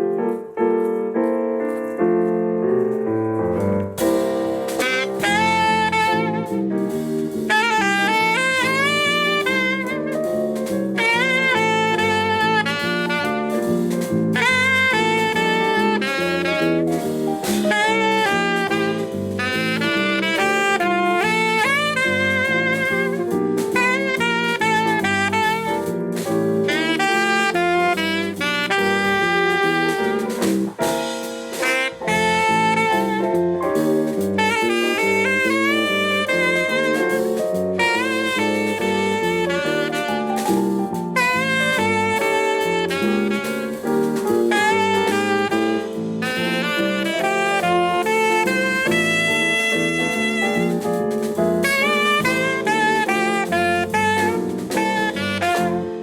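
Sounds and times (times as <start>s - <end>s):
live jazz band: 0.0s - 56.0s
saxophone melody: 3.4s - 56.0s.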